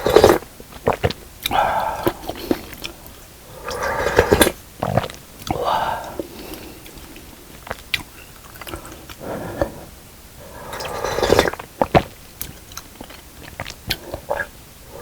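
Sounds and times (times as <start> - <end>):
close chewing and mouth sounds: 0.0 - 15.0.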